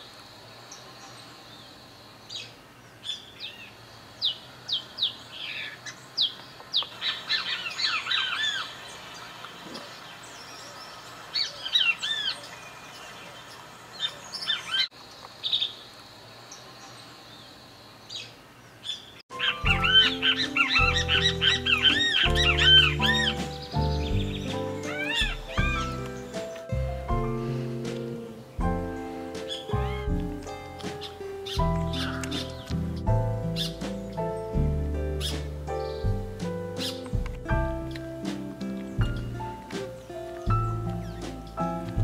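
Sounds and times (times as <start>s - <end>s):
birds chirping and warbling: 0.0s - 42.0s
faint outdoor background: 0.0s - 42.0s.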